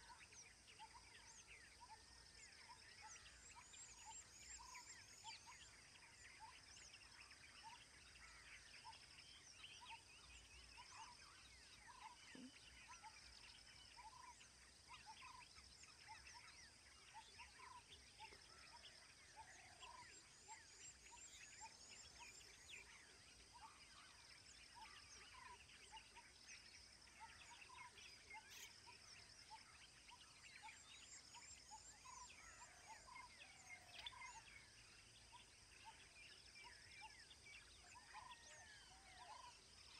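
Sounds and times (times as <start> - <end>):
birds chirping: 0.0 - 39.7.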